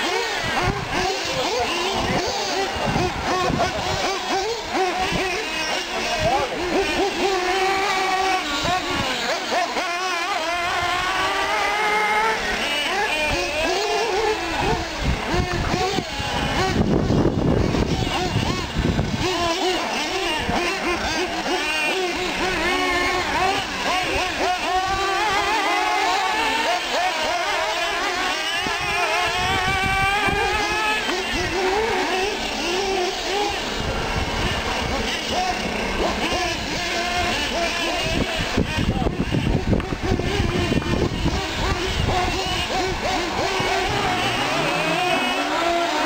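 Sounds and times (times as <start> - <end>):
small model truck engines whining: 0.0 - 46.0.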